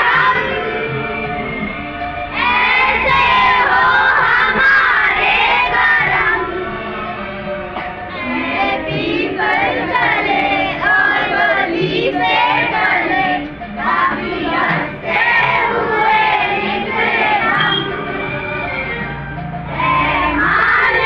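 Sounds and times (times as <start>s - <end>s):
children singing a prayer: 0.0s - 1.3s, 2.3s - 7.0s, 7.8s - 18.4s, 19.6s - 21.0s.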